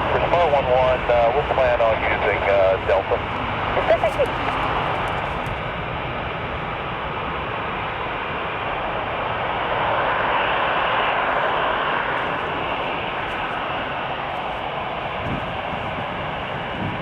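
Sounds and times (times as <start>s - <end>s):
jet airliner engine rumble: 0.0s - 17.0s.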